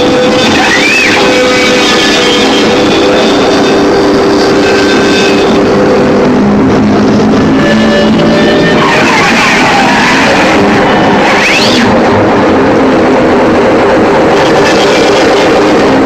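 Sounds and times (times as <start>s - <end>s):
droning electric guitars: 0.0s - 16.0s
experimental rock music: 0.0s - 16.0s
gliding tones: 0.0s - 16.0s.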